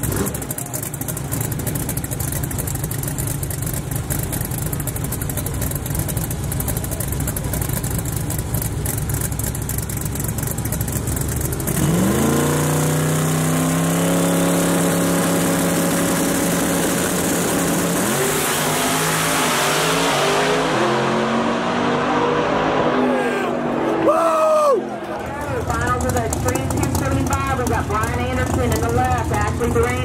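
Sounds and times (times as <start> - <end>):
drag car engine crackling: 0.0 - 19.5, 24.8 - 30.0
drag car accelerating: 0.0 - 30.0.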